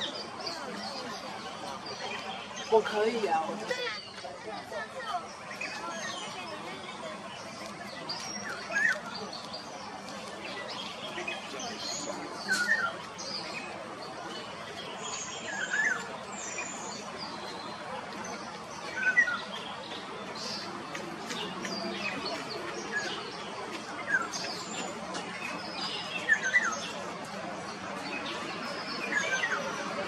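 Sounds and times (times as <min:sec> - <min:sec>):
birds chirping: 0:00.0 - 0:30.0
steady outdoor hiss: 0:00.0 - 0:30.0.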